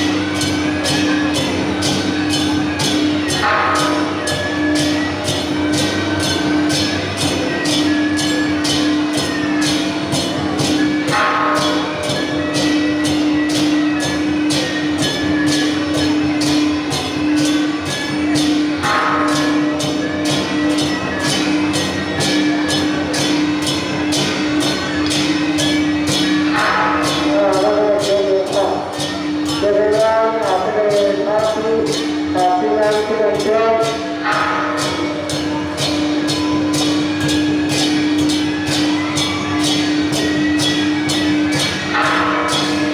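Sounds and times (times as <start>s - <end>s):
cymbal and drum strikes: 0.0s - 42.9s.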